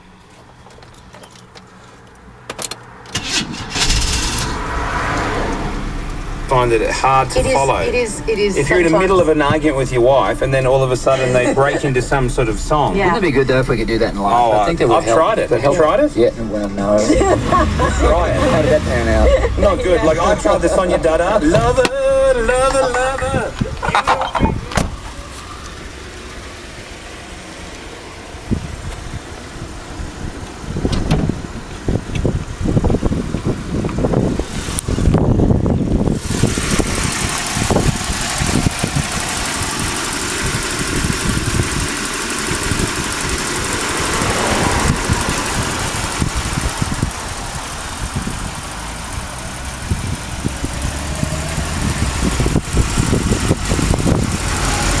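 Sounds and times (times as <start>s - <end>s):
car engine rumbling: 0.0s - 55.0s.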